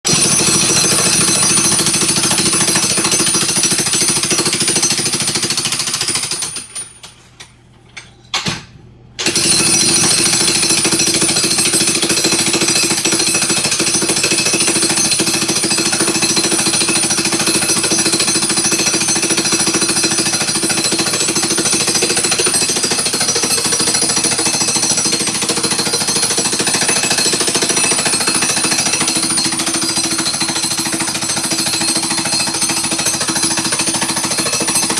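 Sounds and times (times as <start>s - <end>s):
jackhammer chiselling tile: 0.1s - 7.1s, 9.2s - 34.9s.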